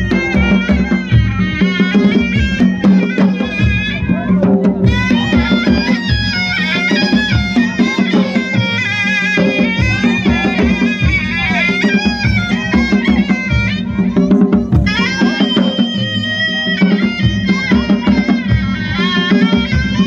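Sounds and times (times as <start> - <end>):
reedy wind instrument melody: 0.0 - 20.0
regular drum beat: 0.0 - 20.0.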